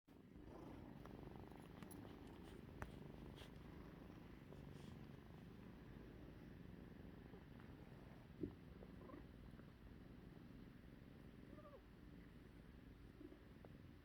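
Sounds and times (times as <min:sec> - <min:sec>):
cat purring: 0:00.2 - 0:14.0.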